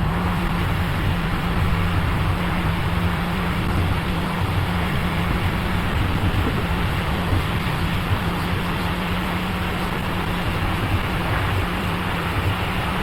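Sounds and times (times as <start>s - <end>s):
hot air blower humming: 0.0s - 13.0s.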